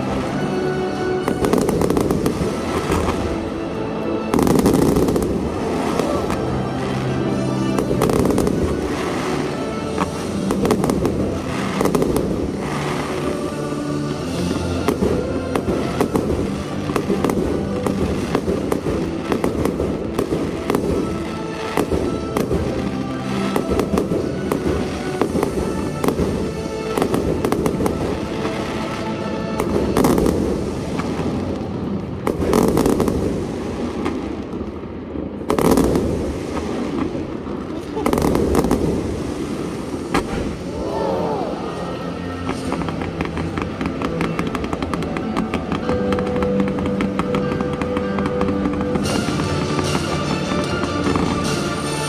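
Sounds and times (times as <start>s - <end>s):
fireworks bangs and crackles: 0.0s - 52.0s
music: 0.0s - 52.0s.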